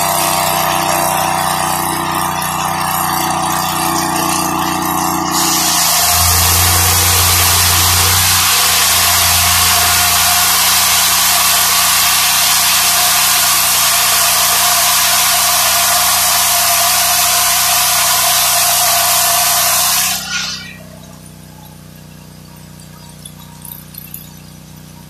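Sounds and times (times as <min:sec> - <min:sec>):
circular saw blade cutting log: 0:00.0 - 0:21.0
engine droning: 0:00.0 - 0:25.0.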